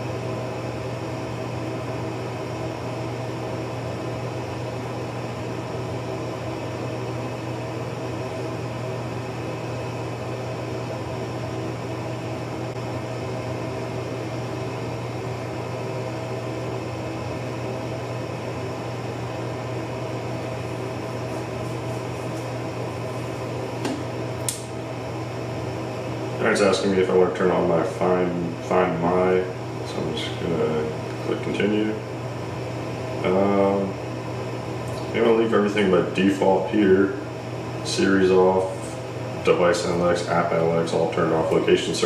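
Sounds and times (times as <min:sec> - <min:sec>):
mechanical room hum: 0:00.0 - 0:42.0.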